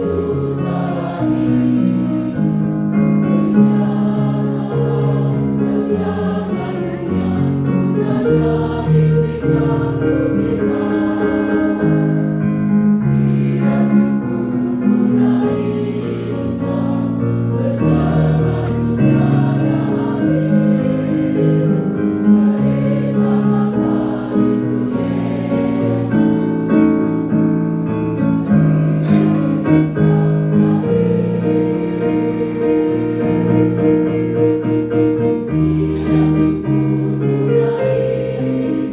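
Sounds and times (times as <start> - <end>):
mixed choir singing chords: 0.0 - 38.9.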